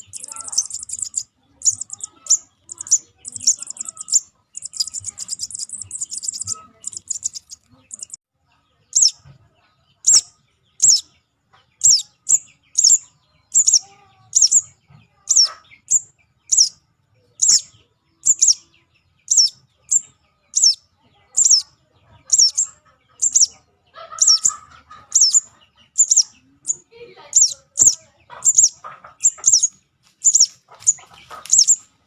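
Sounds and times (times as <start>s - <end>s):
bird high thin chirps: 0.0s - 8.2s, 8.9s - 9.3s, 10.0s - 11.1s, 11.8s - 16.8s, 17.4s - 20.8s, 21.4s - 21.7s, 22.3s - 23.6s, 24.2s - 31.9s.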